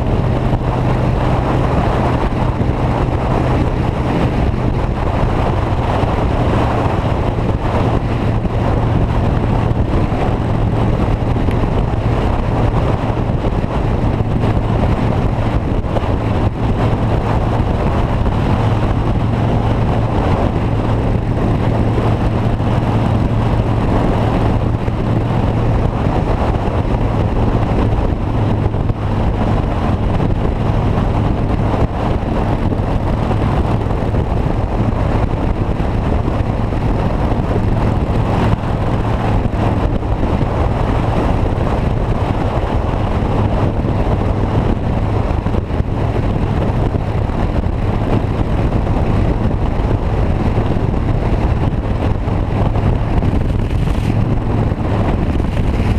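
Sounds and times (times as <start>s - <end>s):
motor vehicle running: 0.0s - 55.9s
wind on microphone: 0.0s - 55.9s.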